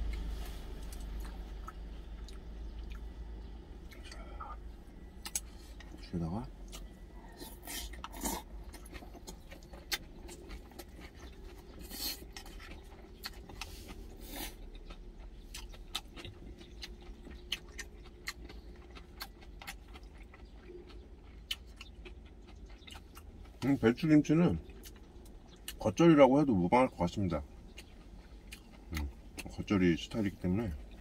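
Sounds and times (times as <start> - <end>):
person chewing: 0.0 - 6.0, 6.6 - 23.7, 24.6 - 25.8, 27.4 - 29.7
steady low hum: 0.0 - 31.0.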